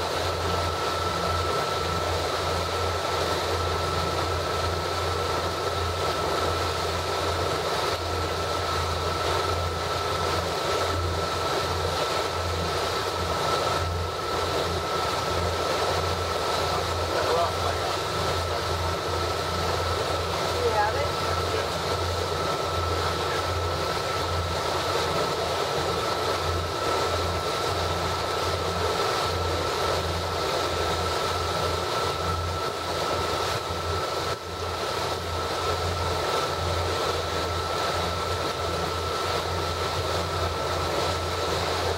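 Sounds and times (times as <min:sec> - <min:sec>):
motorboat engine droning: 0:00.0 - 0:41.9
thin steady whine: 0:00.0 - 0:41.9.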